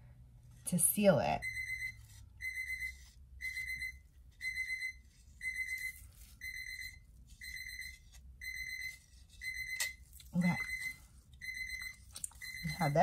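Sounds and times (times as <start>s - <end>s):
electronic alarm beeping: 1.4s - 13.0s.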